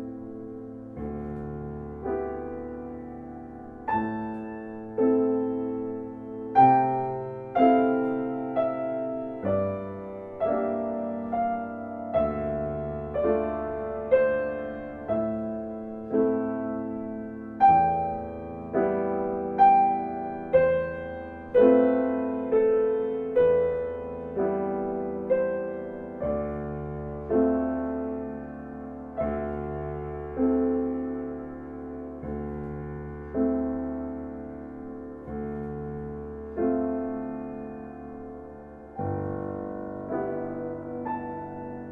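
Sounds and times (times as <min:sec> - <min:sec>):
slow gentle piano music: 0:00.0 - 0:41.9.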